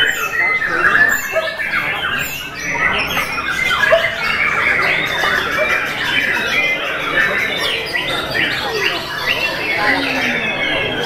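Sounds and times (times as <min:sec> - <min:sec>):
caged birds singing whistled phrases: 0:00.0 - 0:11.0.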